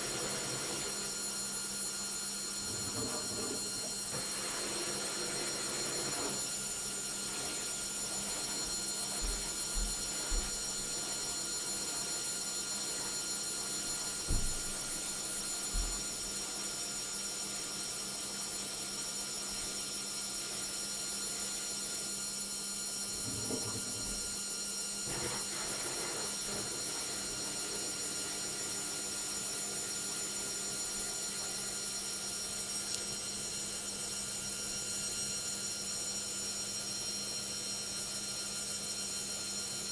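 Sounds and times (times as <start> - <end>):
washing machine spin whine: 0.0 - 39.9.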